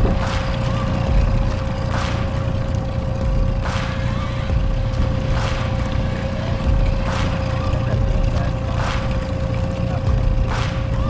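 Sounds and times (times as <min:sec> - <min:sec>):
boat motor rumbling: 0:00.0 - 0:11.0.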